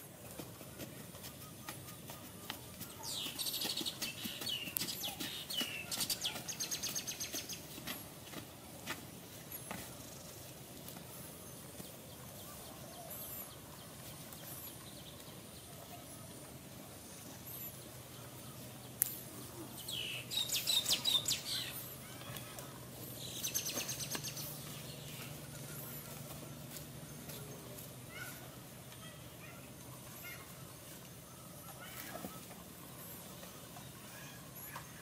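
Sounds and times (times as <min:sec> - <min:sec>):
birds chirping: 0:00.1 - 0:35.0.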